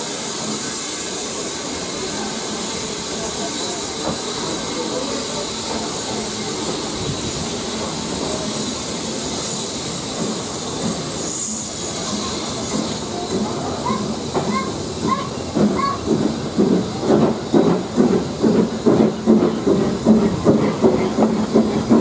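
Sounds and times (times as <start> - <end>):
carriages rumbling on track: 0.0 - 22.0
steam hissing: 0.0 - 22.0.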